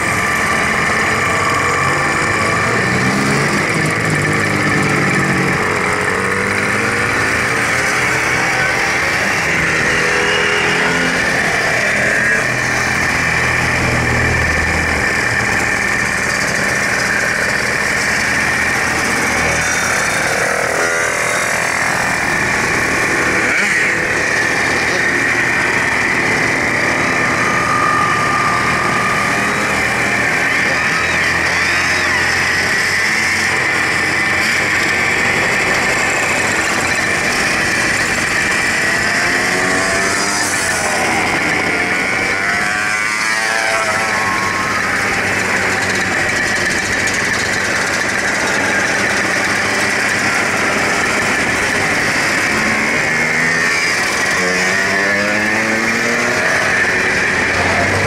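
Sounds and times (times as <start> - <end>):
moped engines running: 0.0 - 58.0.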